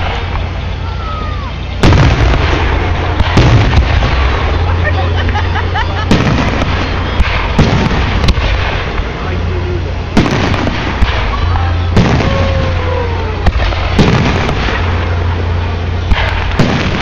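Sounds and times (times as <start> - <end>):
fireworks booming: 0.0 - 17.0
fireworks crackling: 0.0 - 17.0.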